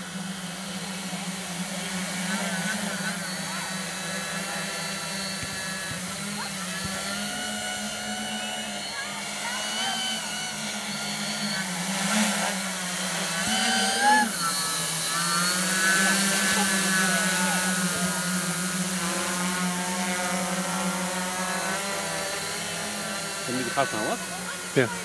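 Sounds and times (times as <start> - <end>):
drone propeller hum: 0.0 - 25.0
motor whine: 0.0 - 25.0.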